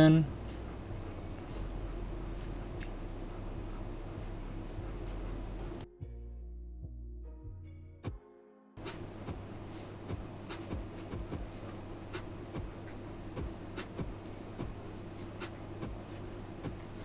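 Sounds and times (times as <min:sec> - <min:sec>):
low electrical hum: 0:00.0 - 0:05.9, 0:08.8 - 0:17.0.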